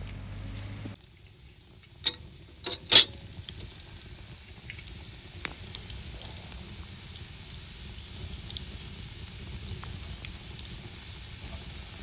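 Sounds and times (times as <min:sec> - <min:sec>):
outdoor background hum: 0:00.0 - 0:12.0
wood fire crackling: 0:00.0 - 0:12.0.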